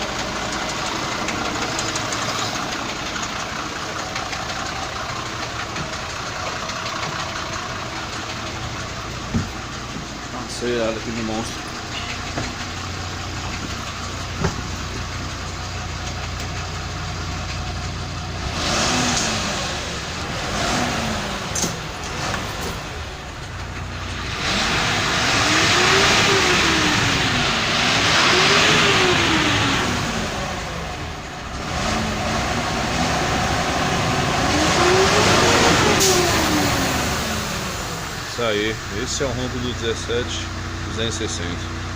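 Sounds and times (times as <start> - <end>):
diesel bus engine idling and revving: 0.0 - 41.9.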